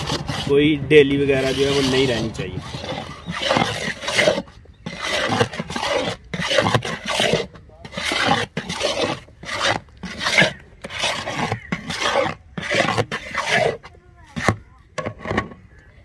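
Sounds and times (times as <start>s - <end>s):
metal spoon scraping metal pan: 0.0s - 15.5s.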